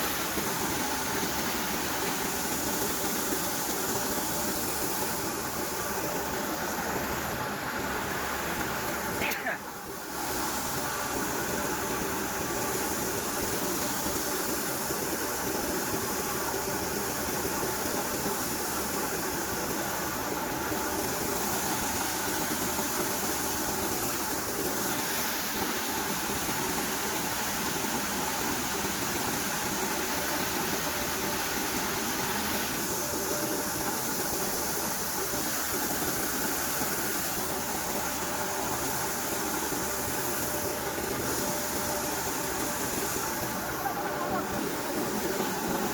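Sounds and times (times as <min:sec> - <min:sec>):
maize sheller machine noise: 0:00.0 - 0:45.9
tractor engine running: 0:00.0 - 0:45.9.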